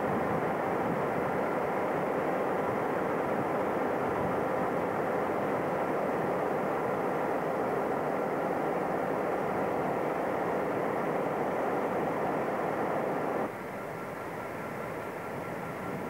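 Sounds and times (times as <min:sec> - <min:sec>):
locomotive engine drone: 0:00.0 - 0:16.0.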